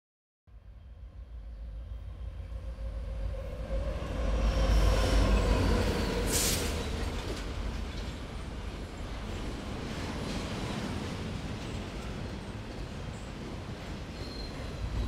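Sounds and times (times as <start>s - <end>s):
passenger train rumbling past: 0.5s - 15.0s.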